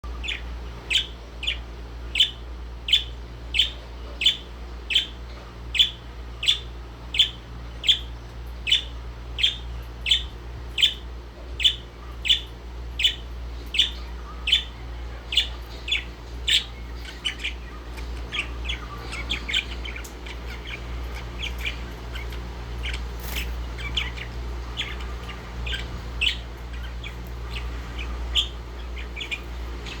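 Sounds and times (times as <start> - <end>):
parakeet calling: 0.0 - 30.0.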